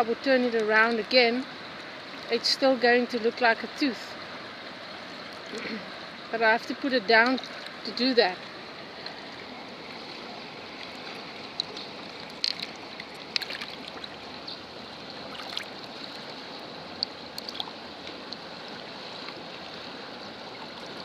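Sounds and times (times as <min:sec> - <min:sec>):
stream running: 0:00.0 - 0:21.0.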